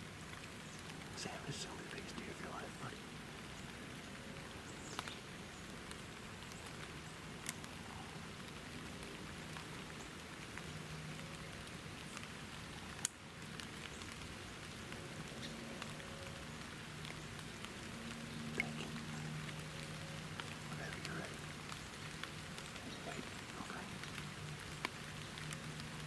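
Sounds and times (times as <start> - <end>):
light rain pattering: 0.0 - 26.0.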